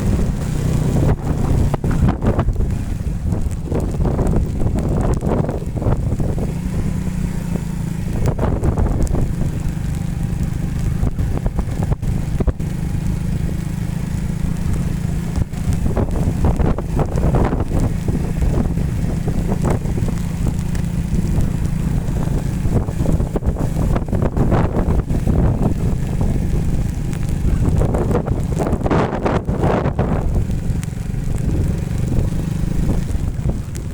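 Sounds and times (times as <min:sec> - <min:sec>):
motorcycle engine rumbling: 0:00.0 - 0:33.9
wind buffeting microphone: 0:00.0 - 0:33.9.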